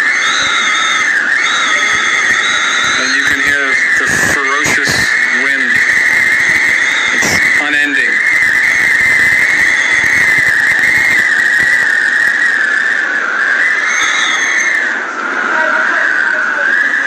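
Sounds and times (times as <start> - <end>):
high whistling wind: 0.0 - 17.0
wind and rain against house: 0.0 - 17.0.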